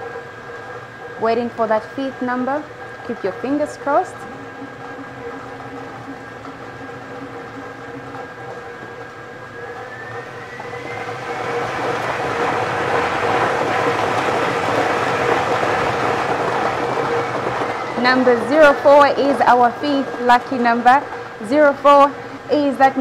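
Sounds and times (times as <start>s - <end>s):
motor hum: 0.0s - 23.0s.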